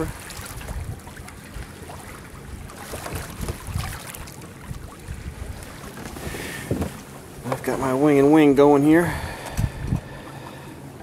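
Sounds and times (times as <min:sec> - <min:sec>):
wind buffeting microphone: 0:00.0 - 0:10.4
water washing along hull: 0:00.0 - 0:11.0.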